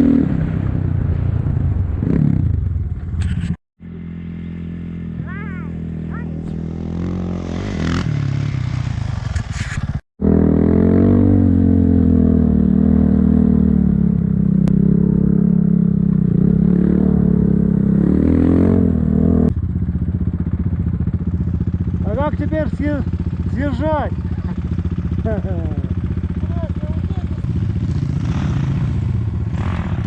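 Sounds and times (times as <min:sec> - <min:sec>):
motorcycle engine running hard: 0:02.1 - 0:30.0.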